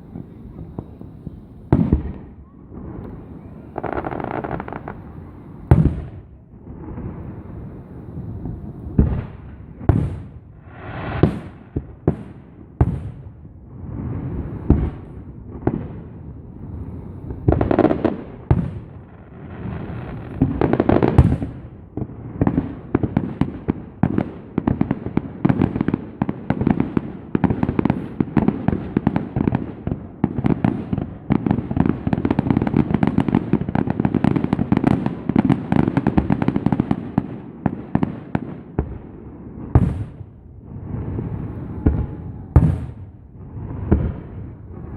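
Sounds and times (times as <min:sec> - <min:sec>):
fireworks bangs and booms: 0:00.0 - 0:44.9
fireworks crackle: 0:00.0 - 0:44.9.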